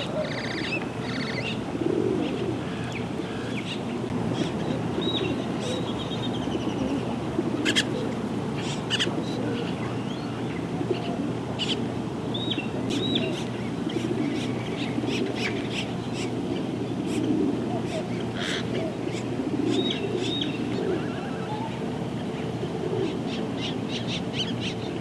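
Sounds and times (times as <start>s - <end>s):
birds chirping and calling: 0.0s - 25.0s.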